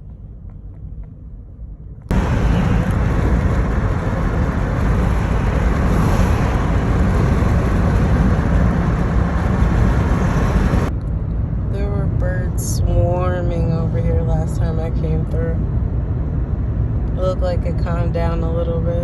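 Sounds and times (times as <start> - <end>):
car road noise: 0.0 - 19.0
rushing wind: 0.0 - 19.0.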